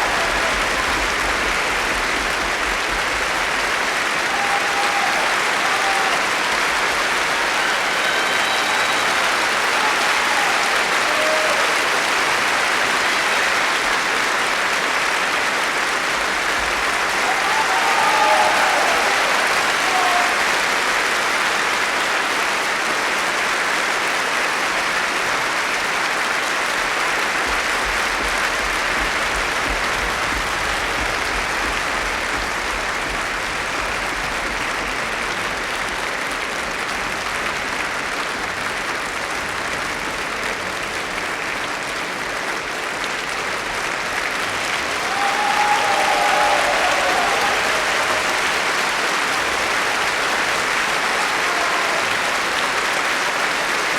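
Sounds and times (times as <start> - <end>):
crowd applauding: 0.0 - 53.9.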